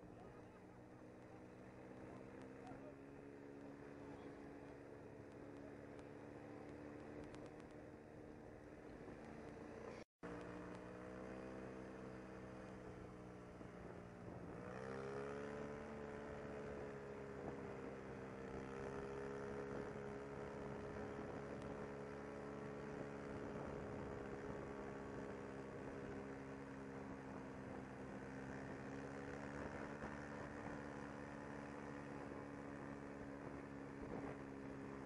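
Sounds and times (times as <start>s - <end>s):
quad bike engine running: 0.0s - 35.0s.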